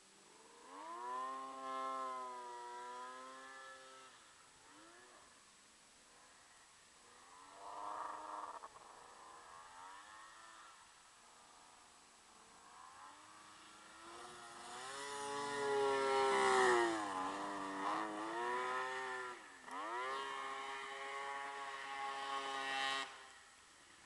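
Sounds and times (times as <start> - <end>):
snowmobile engine working hard: 0.3 - 5.3, 7.2 - 10.8, 12.5 - 24.0.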